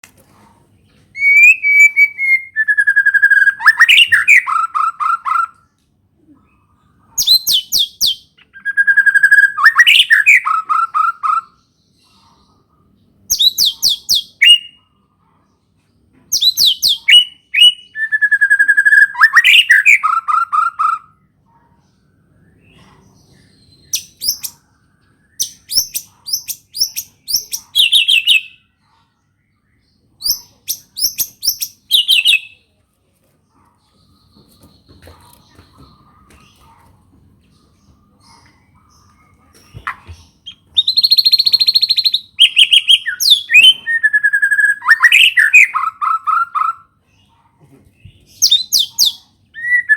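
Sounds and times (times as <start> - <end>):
songbird singing: 0.8 - 15.1, 15.8 - 32.8, 33.7 - 49.9.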